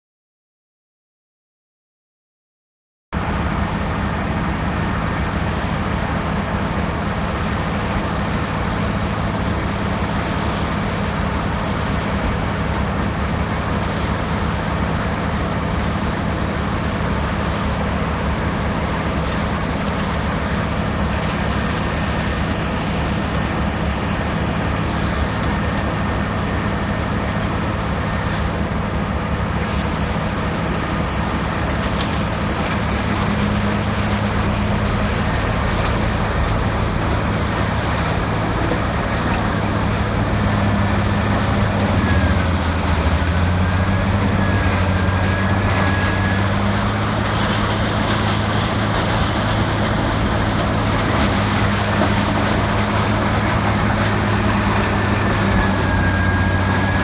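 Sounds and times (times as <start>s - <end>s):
diesel grinder running: 3.2s - 57.0s
excavator loading brush: 3.5s - 57.0s.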